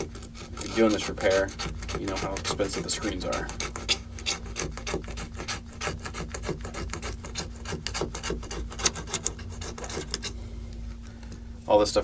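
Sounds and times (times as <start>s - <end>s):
pick scraping adhesive: 0.0s - 11.0s.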